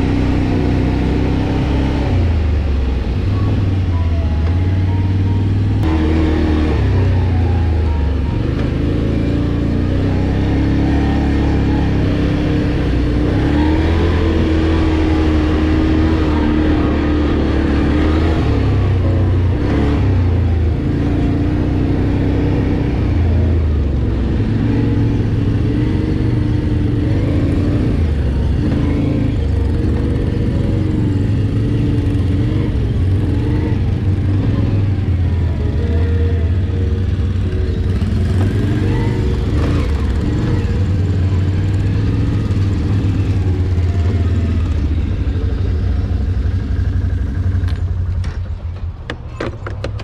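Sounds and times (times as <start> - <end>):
quad bike engine revving: 0.0 - 48.2.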